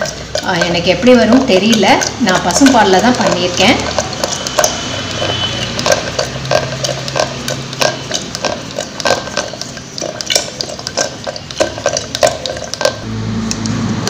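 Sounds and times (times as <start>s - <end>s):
churning stick swishing through liquid: 0.0s - 13.0s
stick knocking against steel pot: 0.0s - 13.0s.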